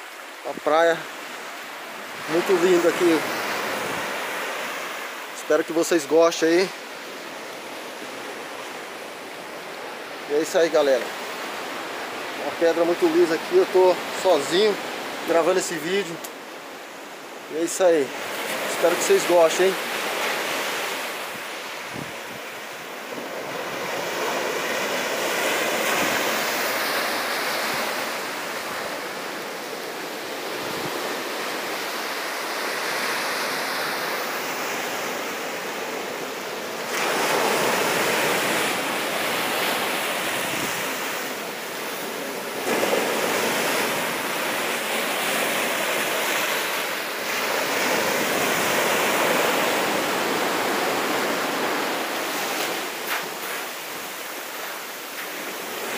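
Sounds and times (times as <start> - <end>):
ocean surf breaking on beach: 0.0 - 55.9.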